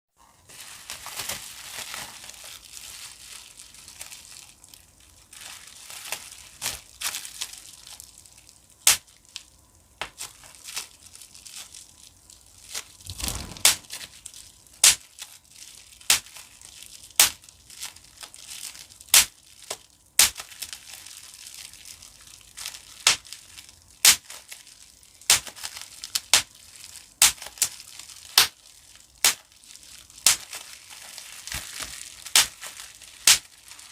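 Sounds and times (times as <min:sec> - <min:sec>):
bubble wrap crinkling: 0:00.2 - 0:33.9
bubble wrap popping: 0:00.3 - 0:33.9.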